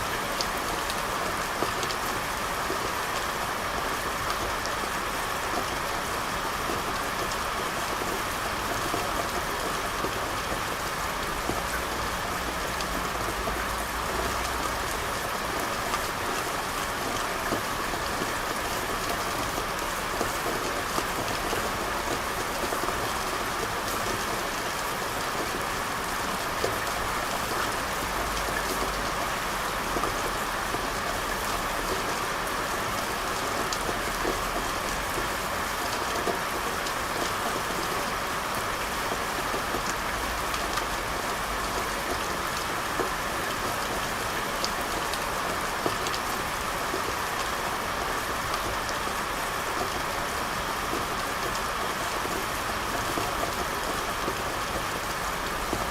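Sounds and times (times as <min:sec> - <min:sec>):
rain on hard surfaces: 0:00.0 - 0:55.9.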